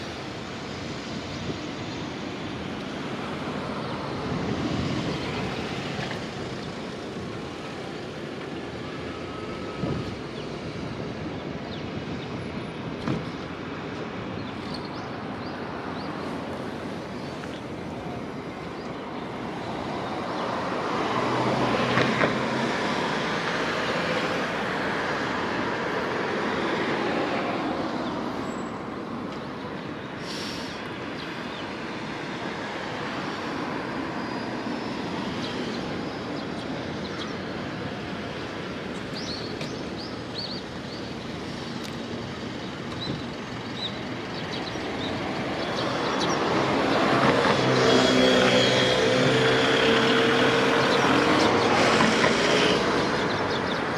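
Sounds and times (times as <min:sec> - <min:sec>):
cars passing: 0:00.0 - 0:53.9.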